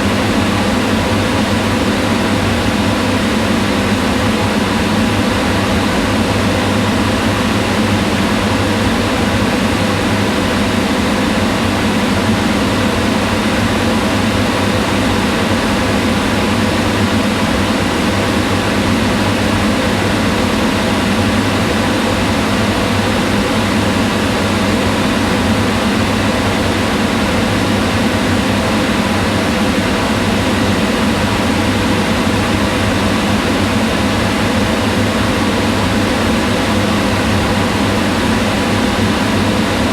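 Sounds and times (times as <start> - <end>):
extractor fan whirring: 0.0 - 39.9.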